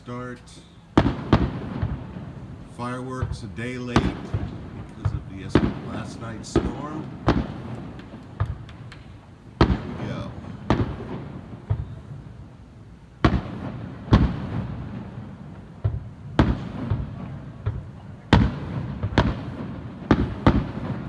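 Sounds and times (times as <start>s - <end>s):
firework shells bursting: 0.0s - 21.0s.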